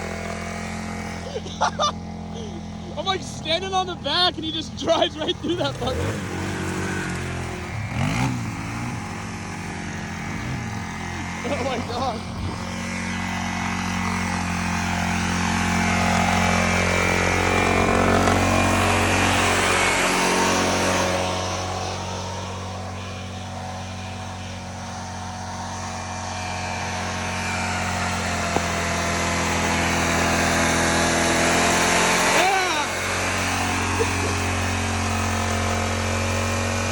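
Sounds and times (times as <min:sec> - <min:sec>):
riding lawn mower engine: 0:00.0 - 0:36.9.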